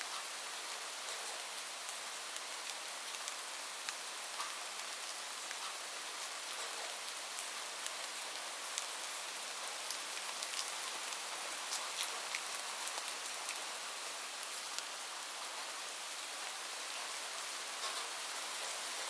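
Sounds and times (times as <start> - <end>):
light rain falling: 0.0 - 19.0
raindrops ticking on a surface: 0.0 - 19.0.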